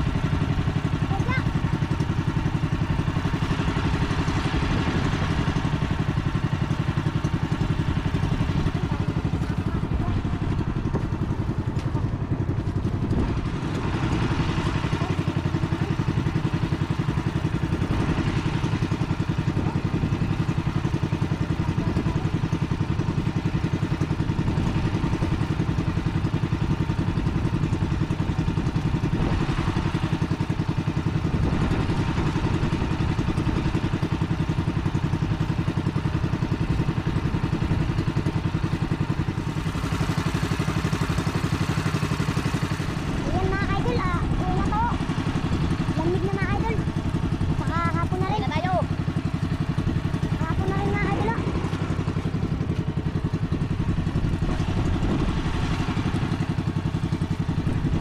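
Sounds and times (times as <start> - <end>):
boat engine chugging: 0.0 - 58.0.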